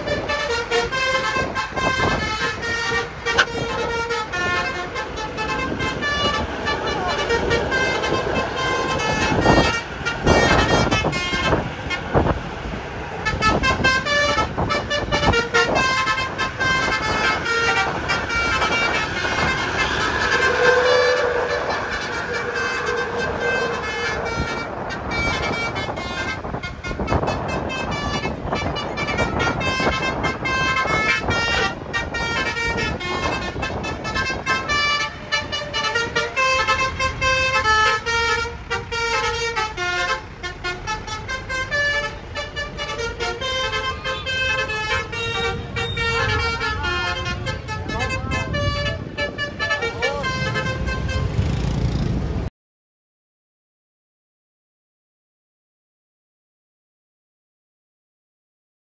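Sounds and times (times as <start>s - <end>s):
horns tooting: 0.0s - 52.1s
continuous noisy din: 0.0s - 52.5s.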